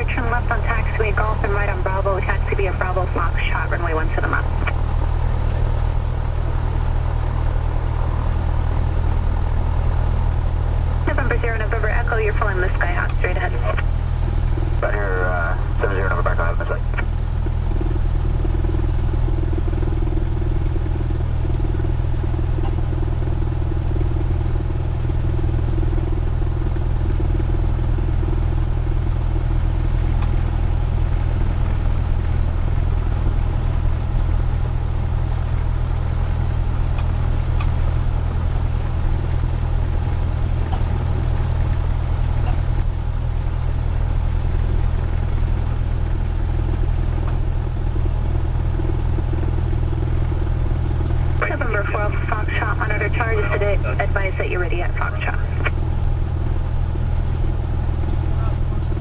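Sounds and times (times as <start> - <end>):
aircraft engine droning: 0.0 - 59.0.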